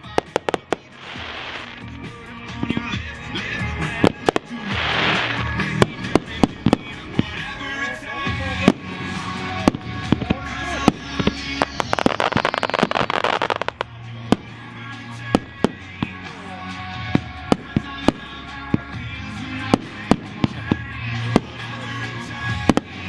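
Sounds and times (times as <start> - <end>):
firework bangs: 0.0 - 23.0
fireworks crackling: 0.0 - 23.0
music: 0.0 - 23.0.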